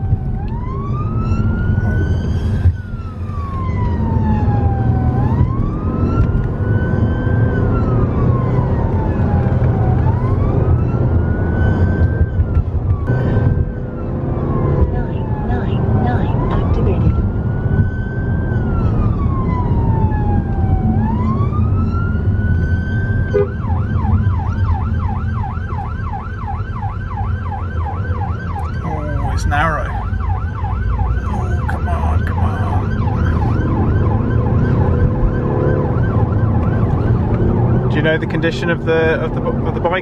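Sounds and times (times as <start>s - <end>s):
police siren wailing and yelping: 0.0s - 38.1s
car road and engine noise: 0.0s - 40.0s.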